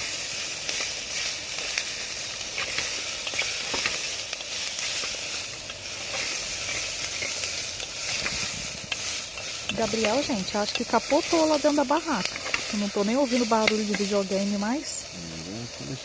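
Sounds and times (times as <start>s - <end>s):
sausage sizzling in hot oil: 0.0s - 16.0s.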